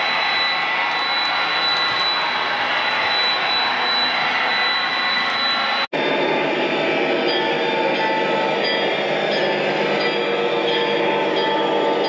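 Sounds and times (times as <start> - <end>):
diesel locomotive engine sound: 0.0 - 12.0.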